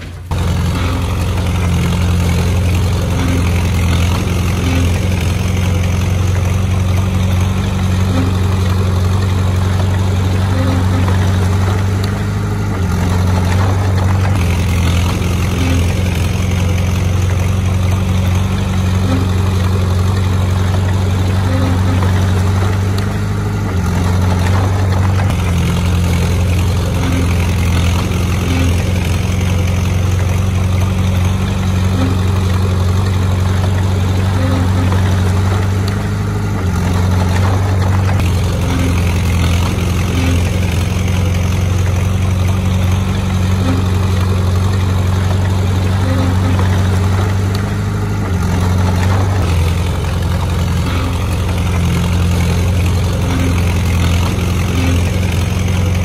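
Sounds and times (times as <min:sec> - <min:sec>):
heavy machine engine running: 0:00.0 - 0:56.0.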